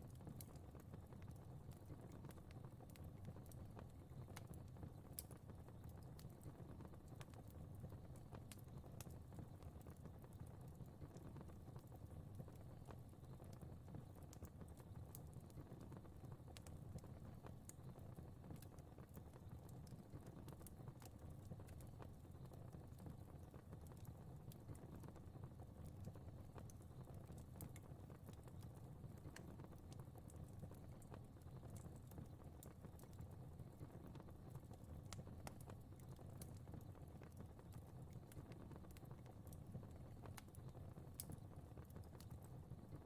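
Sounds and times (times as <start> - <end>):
faint crackling fire: 0.0 - 43.0
low rumble of flame: 0.0 - 43.0.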